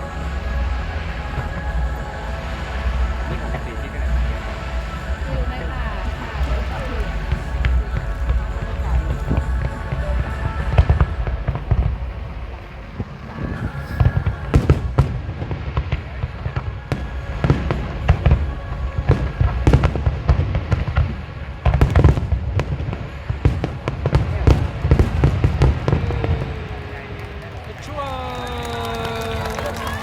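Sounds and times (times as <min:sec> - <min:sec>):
deep booming rumble: 0:00.0 - 0:27.7
fireworks bangs: 0:00.0 - 0:30.0.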